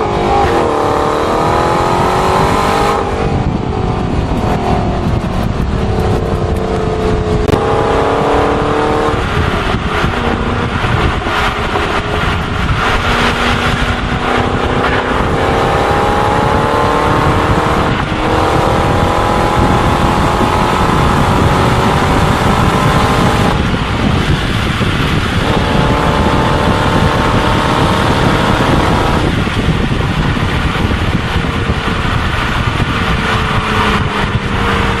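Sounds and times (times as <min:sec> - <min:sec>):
car engine revving through gears: 0:00.0 - 0:35.0
road noise: 0:00.0 - 0:35.0.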